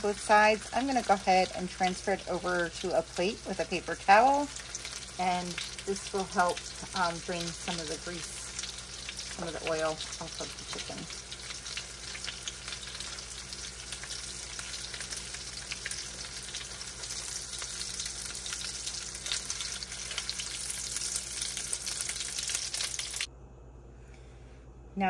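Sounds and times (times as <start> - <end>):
chicken frying in oil: 0.0 - 23.3.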